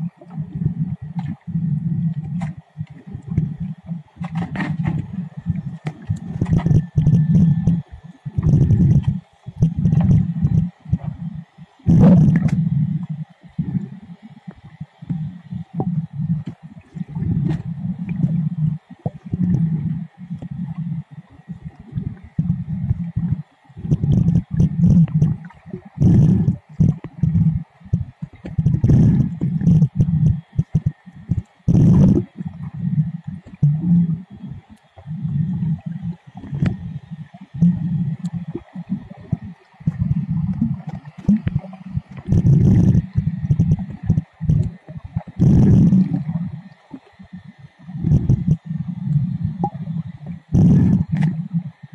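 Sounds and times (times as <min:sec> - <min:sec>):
muffled underwater rumbling: 0:00.0 - 0:51.9
rushes of bubbling: 0:00.0 - 0:51.9.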